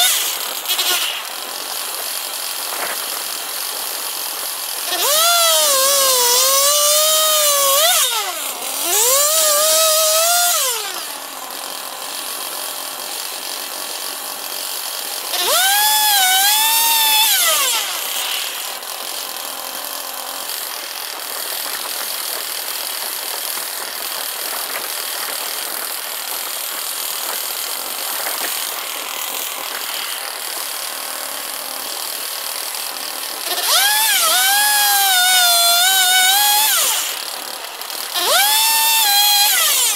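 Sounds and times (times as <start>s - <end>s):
sawmill engine revving: 0.0s - 39.9s.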